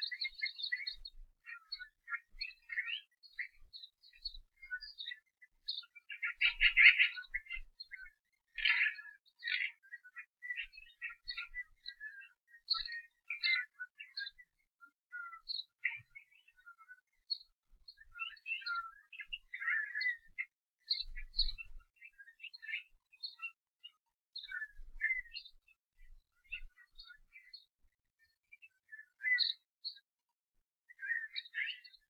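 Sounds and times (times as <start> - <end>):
small bird chirping and twittering: 0.0 - 30.1, 30.9 - 32.0.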